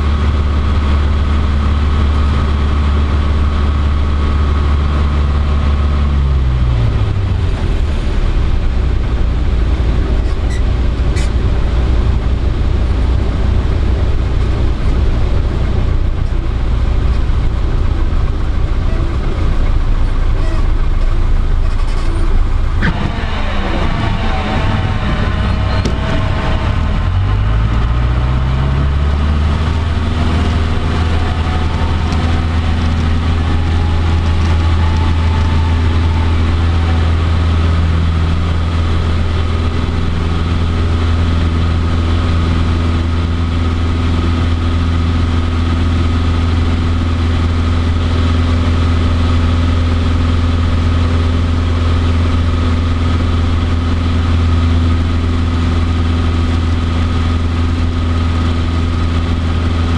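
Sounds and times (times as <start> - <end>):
airplane engine and propeller: 0.0 - 59.9.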